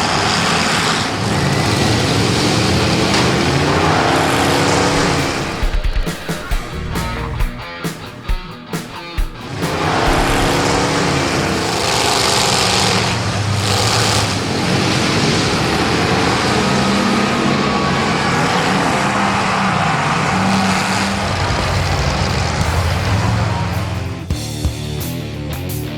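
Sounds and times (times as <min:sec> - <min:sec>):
car engines revving: 0:00.0 - 0:24.9.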